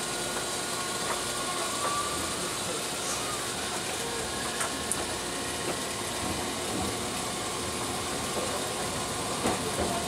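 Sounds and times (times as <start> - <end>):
tram running noise: 0.0 - 10.0.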